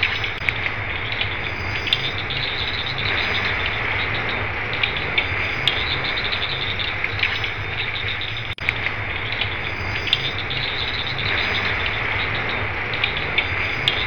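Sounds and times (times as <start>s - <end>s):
insect chirps and ticks: 0.0s - 14.0s
steady low rumble: 0.0s - 14.0s.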